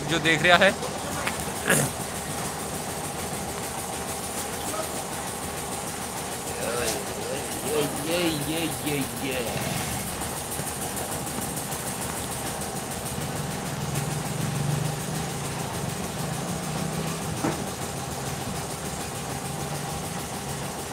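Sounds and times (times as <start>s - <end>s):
flour mill droning: 0.0s - 20.9s.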